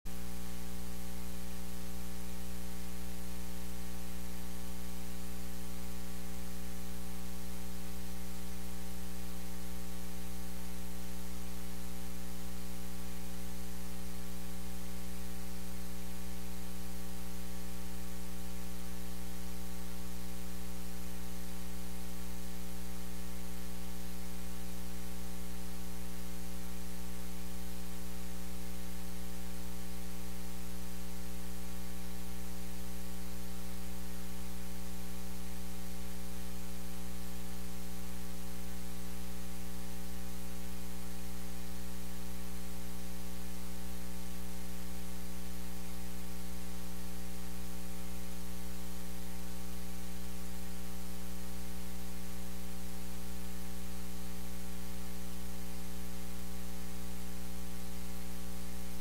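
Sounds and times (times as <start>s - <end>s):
electrical mains hum: 0.1s - 59.0s
static hiss: 0.1s - 59.0s.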